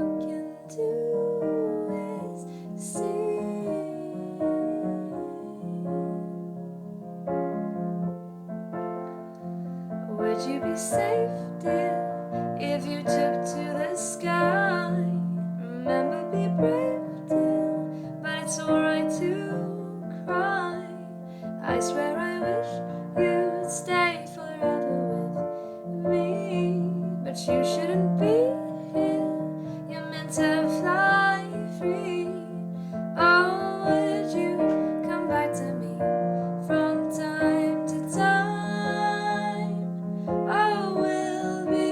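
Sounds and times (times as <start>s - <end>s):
woman singing a slow ballad: 0.0s - 6.4s, 10.1s - 41.9s
piano accompaniment: 0.0s - 41.9s.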